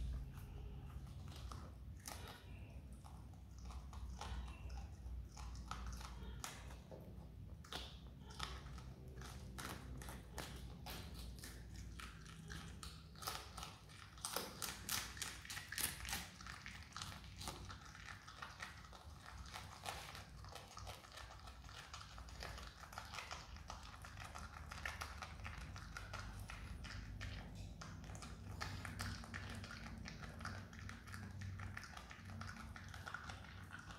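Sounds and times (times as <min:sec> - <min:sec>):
animal chewing cabbage: 0:00.0 - 0:33.9.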